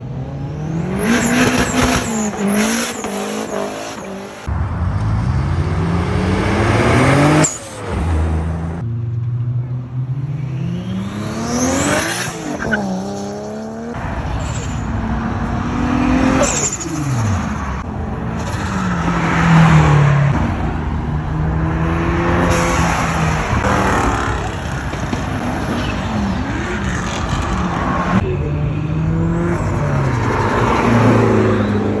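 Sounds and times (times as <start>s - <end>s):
turbocharged car engine revving: 0.0s - 9.0s, 9.6s - 32.0s.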